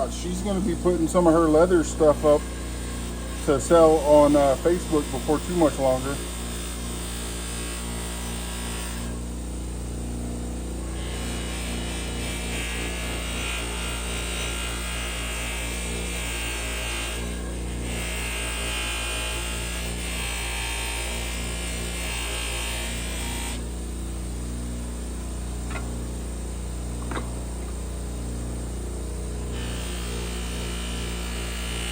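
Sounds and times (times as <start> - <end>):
small electric motor humming: 0.0 - 31.9.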